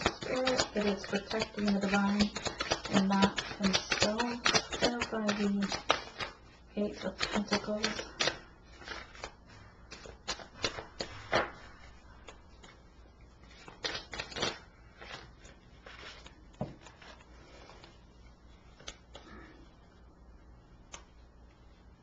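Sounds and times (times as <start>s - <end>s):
cards being shuffled: 0.0s - 19.3s.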